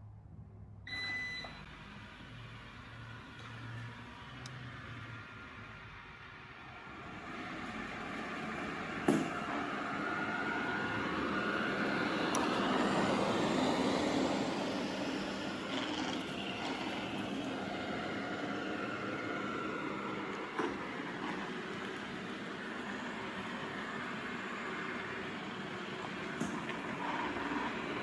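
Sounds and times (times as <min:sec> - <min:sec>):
robot vacuum whirring: 0:01.8 - 0:28.0.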